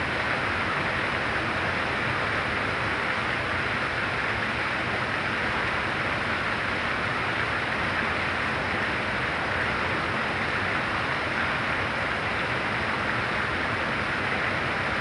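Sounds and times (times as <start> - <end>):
very heavy rain: 0.0 - 15.0.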